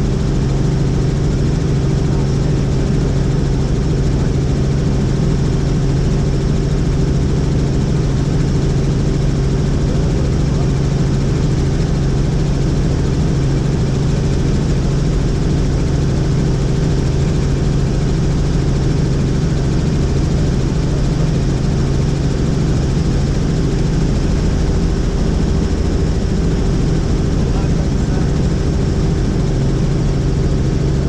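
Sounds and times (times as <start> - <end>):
helicopter engine and rotors: 0.0 - 31.0.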